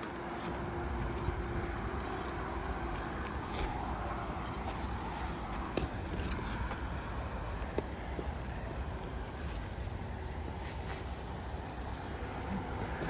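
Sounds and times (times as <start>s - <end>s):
low outdoor rumble: 0.1s - 13.0s.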